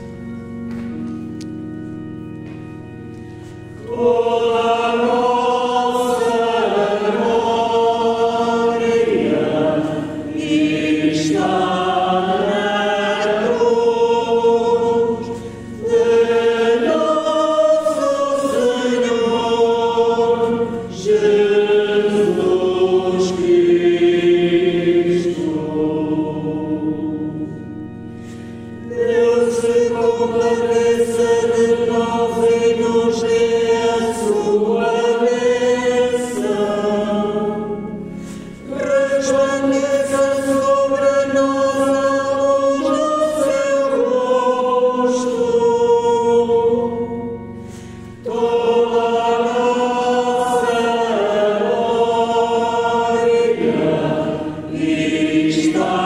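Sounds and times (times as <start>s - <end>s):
choir singing: 3.7s - 56.0s.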